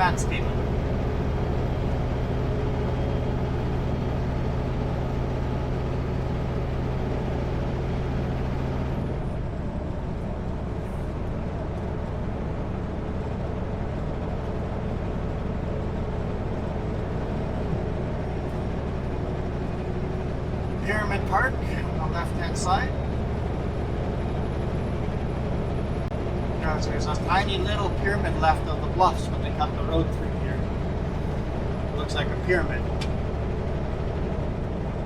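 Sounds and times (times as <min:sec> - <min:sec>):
high engine whine: 0:00.0 - 0:35.0
road noise: 0:00.0 - 0:35.0
truck diesel engine drone: 0:00.0 - 0:35.0.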